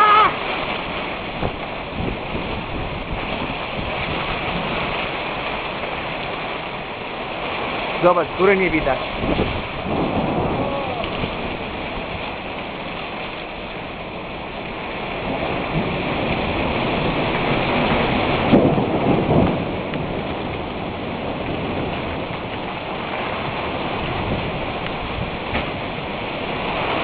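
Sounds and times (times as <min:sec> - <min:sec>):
heavy rain pouring: 0:00.0 - 0:27.0
thunder rumbling and cracking: 0:00.0 - 0:27.0.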